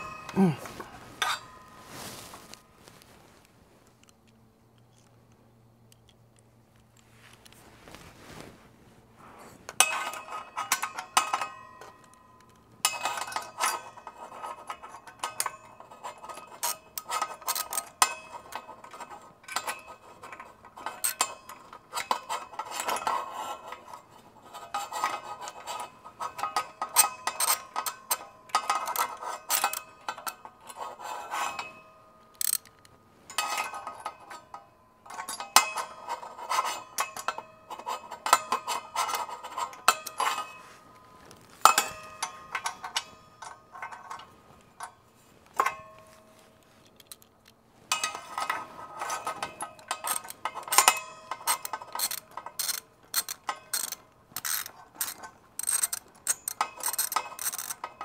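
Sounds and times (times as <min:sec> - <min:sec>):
metal tools clicking and clinking: 0:00.0 - 0:01.9, 0:09.7 - 0:58.0.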